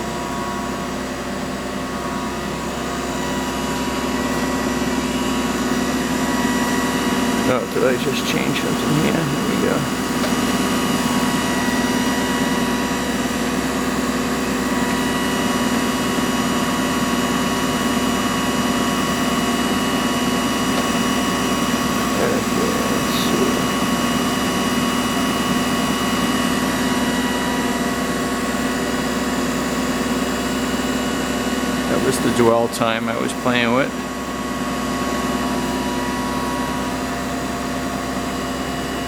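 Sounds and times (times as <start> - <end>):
grinder mechanical hum with high tones: 0.0 - 39.0.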